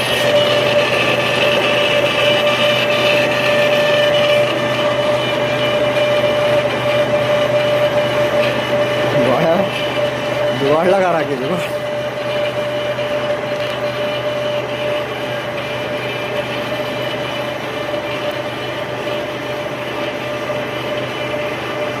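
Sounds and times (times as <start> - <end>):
metal lathe running: 0.0 - 22.0.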